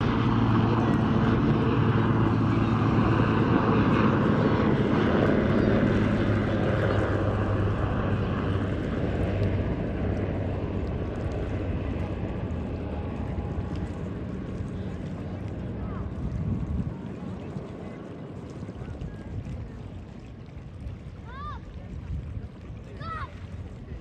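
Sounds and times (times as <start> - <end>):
helicopter rotor and turbine drone: 0.0 - 19.3.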